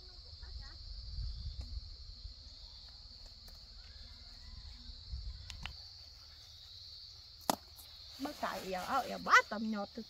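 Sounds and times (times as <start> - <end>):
insect chorus: 0.0 - 10.0.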